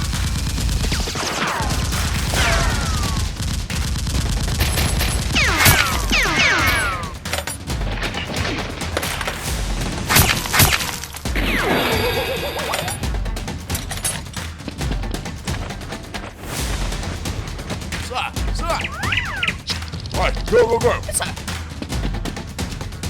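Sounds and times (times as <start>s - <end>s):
background music with low beat: 0.0s - 23.0s
rapid gunfire: 0.0s - 23.0s.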